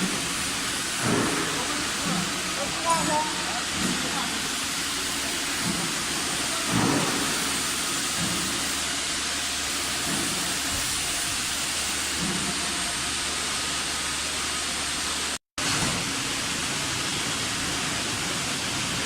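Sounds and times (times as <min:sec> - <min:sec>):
rushing air hiss: 0:00.0 - 0:19.0.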